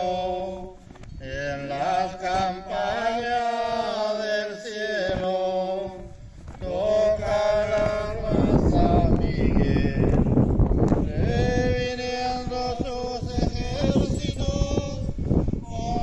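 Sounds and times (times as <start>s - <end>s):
voices singing a hymn: 0.0s - 16.0s.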